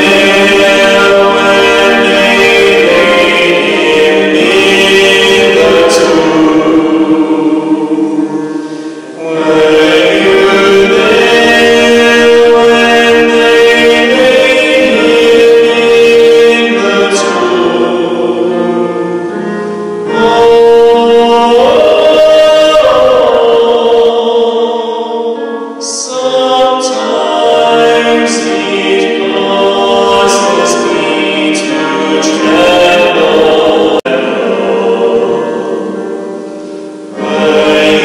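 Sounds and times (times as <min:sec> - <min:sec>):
hymn singing: 0:00.0 - 0:38.0.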